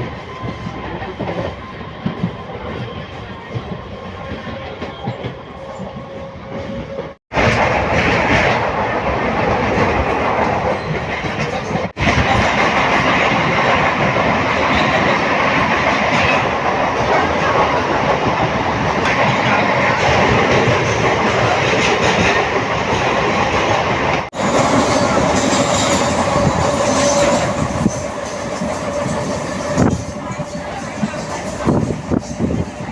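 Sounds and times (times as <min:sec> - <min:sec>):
electric train running: 0:00.0 - 0:32.9.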